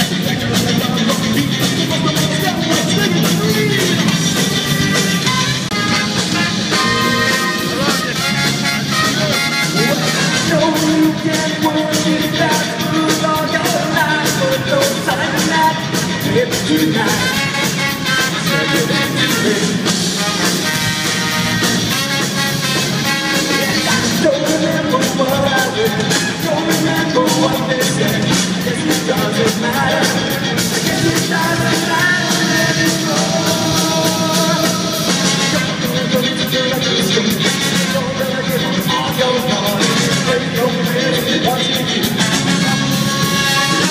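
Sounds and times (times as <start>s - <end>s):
live ska-rock band: 0.0s - 43.9s.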